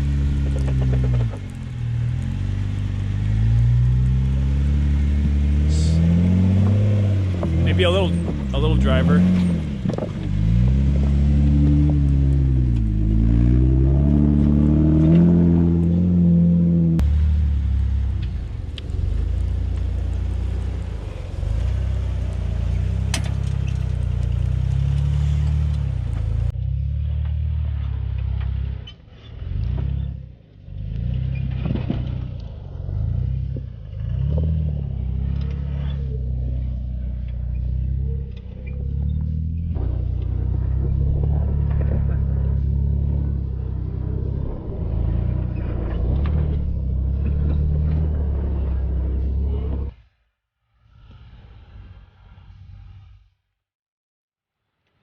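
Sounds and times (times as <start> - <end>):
off-road vehicle engine running: 0.0 - 50.0.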